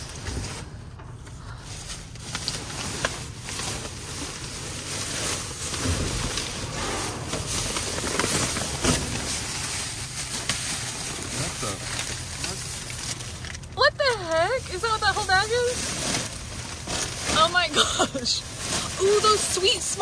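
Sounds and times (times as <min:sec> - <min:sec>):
plastic bags rustling and crinkling: 0:00.0 - 0:20.0.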